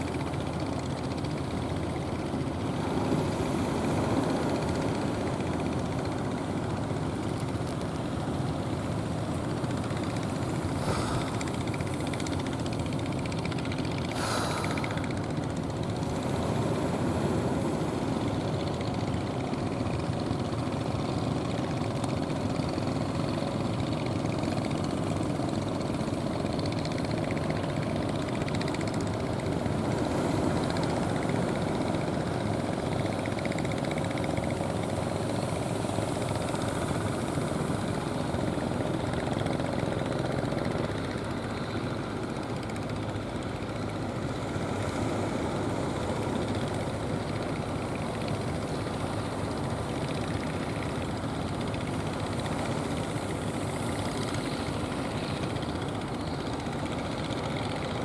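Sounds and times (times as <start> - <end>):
boat engines droning: 0.0 - 58.0.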